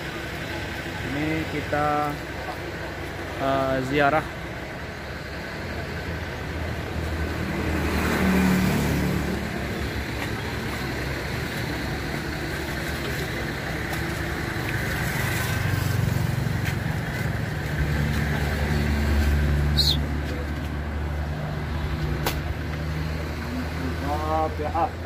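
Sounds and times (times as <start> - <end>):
vehicles passing: 0.0 - 25.0.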